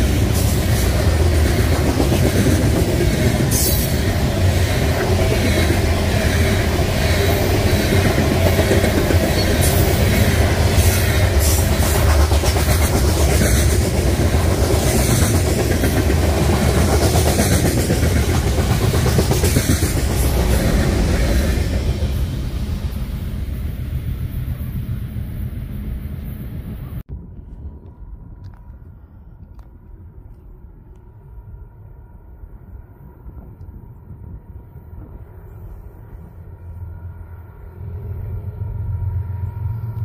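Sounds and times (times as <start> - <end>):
train cars rumbling past: 0.0 - 29.1, 31.2 - 40.0.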